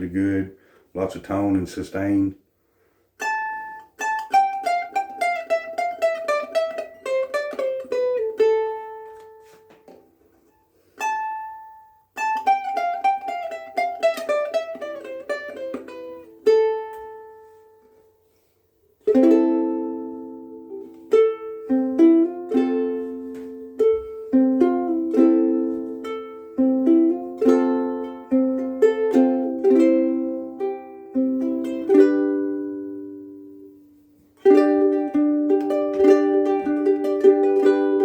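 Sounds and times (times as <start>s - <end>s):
ukulele playing: 3.2s - 38.0s.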